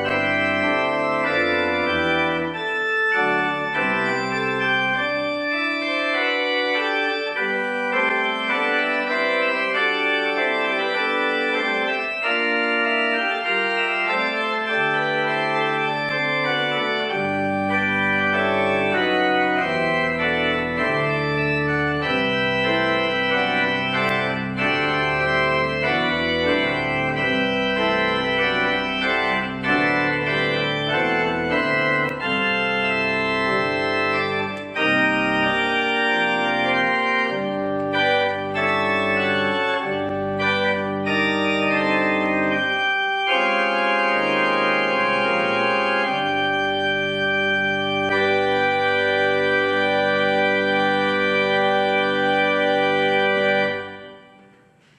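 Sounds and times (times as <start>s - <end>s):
deep organ pedal bass notes: 0.0s - 54.6s
church organ chords: 0.0s - 54.9s.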